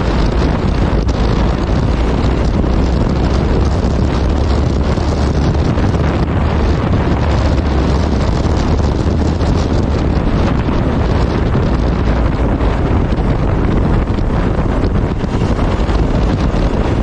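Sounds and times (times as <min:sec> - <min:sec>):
motorcycle running noise: 0:00.0 - 0:17.0
wind buffeting microphone: 0:00.0 - 0:17.0.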